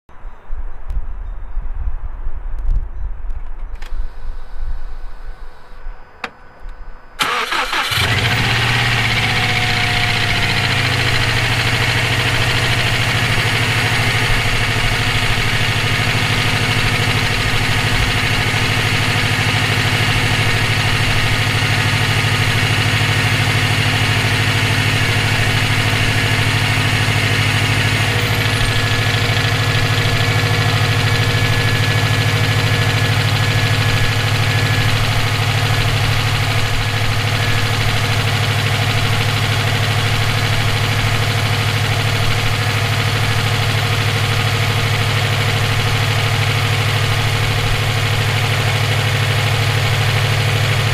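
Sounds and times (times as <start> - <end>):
car engine starting and idling: 7.2 - 50.9.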